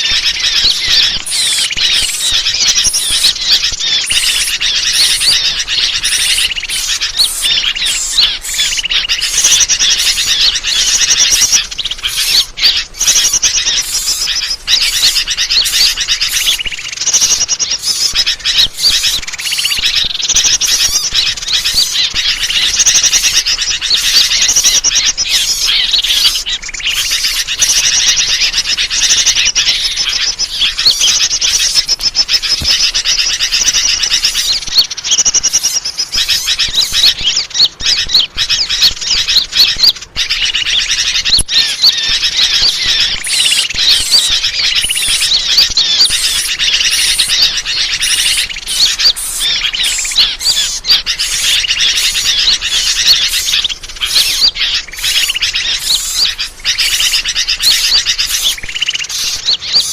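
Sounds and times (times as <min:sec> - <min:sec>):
small birds chirping and chattering: 0:00.0 - 0:59.9.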